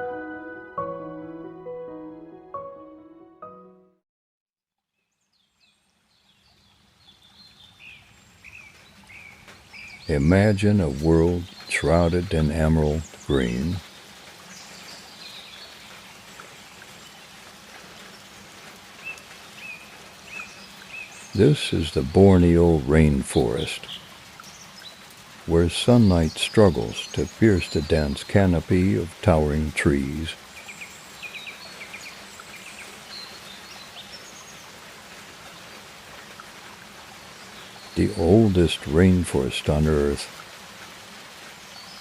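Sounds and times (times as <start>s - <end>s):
rain hiss: 5.2s - 42.0s.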